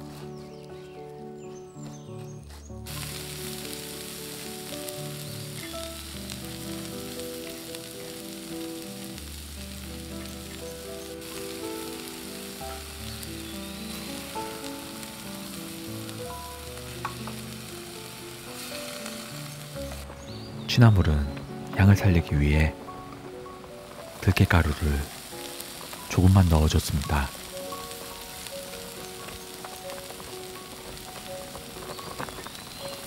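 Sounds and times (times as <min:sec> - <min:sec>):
soft background music: 0:00.0 - 0:33.0
greens sizzling in a wok: 0:02.8 - 0:33.0.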